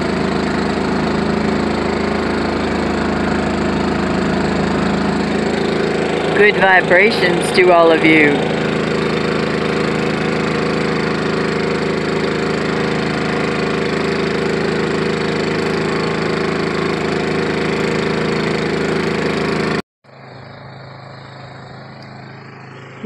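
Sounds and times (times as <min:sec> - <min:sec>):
portable generator engine running: 0:00.0 - 0:23.0.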